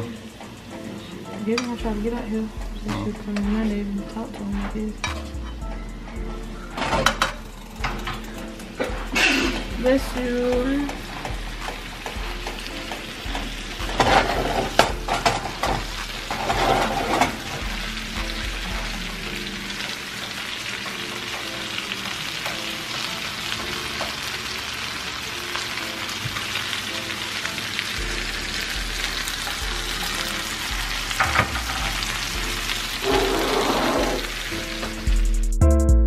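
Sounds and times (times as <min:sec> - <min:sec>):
steaks sizzling in a frying pan: 0:05.7 - 0:35.2.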